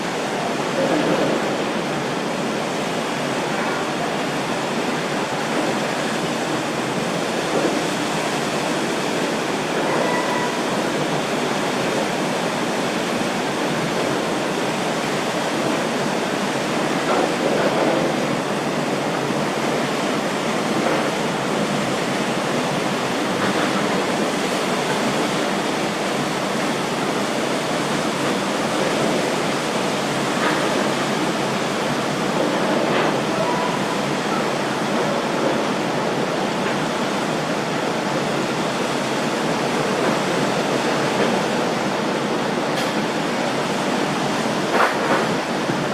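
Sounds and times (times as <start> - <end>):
water rushing around a boat: 0.0 - 45.9.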